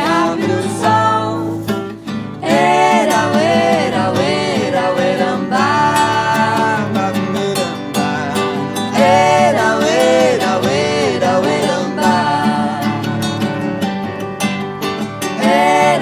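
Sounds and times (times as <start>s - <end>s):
people singing: 0.0s - 14.3s, 15.0s - 16.0s
acoustic guitar: 0.0s - 16.0s.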